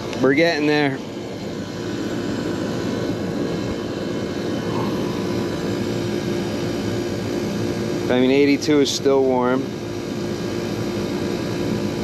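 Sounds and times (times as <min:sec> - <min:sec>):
air conditioning unit humming: 0:00.0 - 0:12.0
fan rushing: 0:00.0 - 0:12.0.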